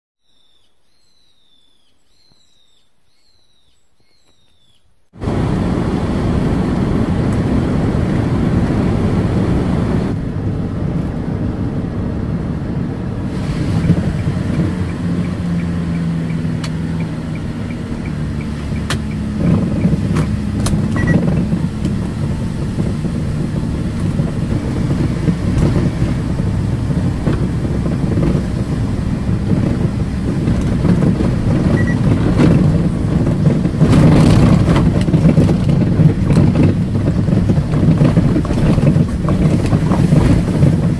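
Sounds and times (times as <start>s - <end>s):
car cabin engine and road noise: 4.1s - 40.9s.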